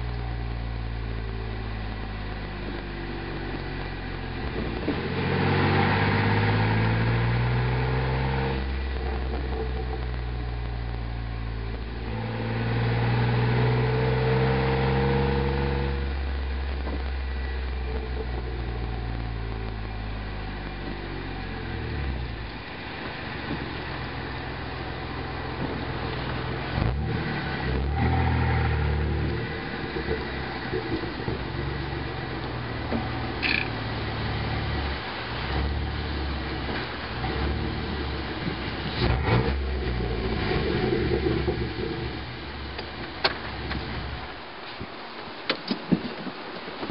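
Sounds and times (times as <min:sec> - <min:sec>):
car engine revving: 0:00.0 - 0:44.4
exhaust crackling pops: 0:00.0 - 0:46.9.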